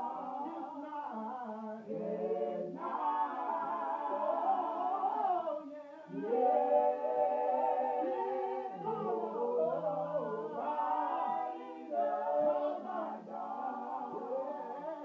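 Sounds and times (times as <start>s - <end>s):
vocal group singing a cappella: 0.0s - 15.0s.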